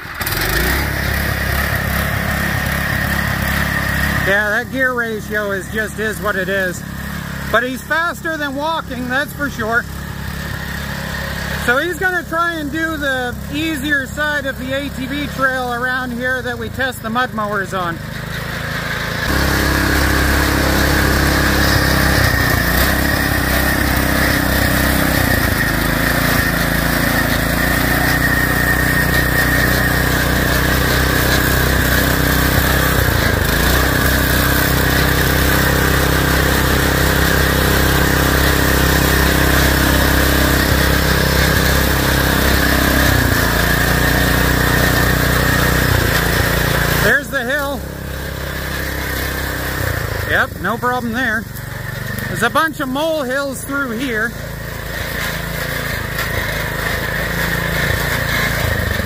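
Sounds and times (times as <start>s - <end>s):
small engine running under load: 0.0s - 59.0s.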